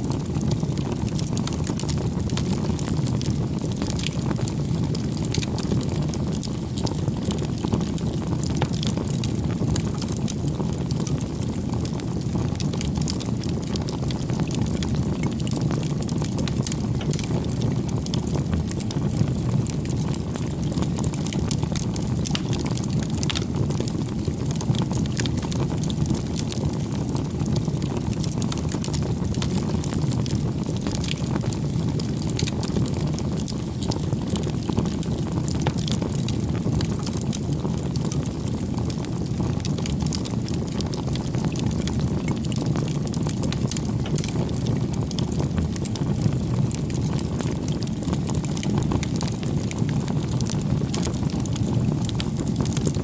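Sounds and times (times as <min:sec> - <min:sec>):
burning wood crackling: 0:00.1 - 0:53.0
flames rushing: 0:00.1 - 0:53.0.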